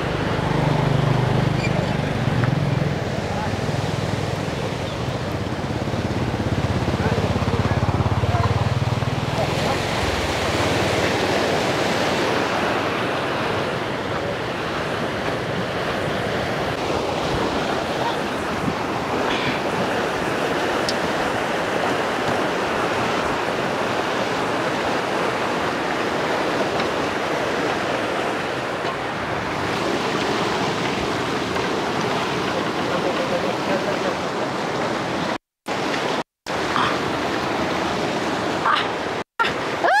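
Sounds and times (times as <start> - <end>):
river rushing through whitewater: 0.0 - 40.0.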